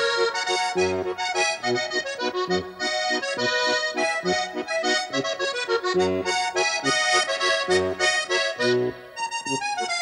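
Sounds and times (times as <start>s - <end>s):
accordion low bass notes: 0.0s - 10.0s
button accordion folk melody: 0.0s - 10.0s.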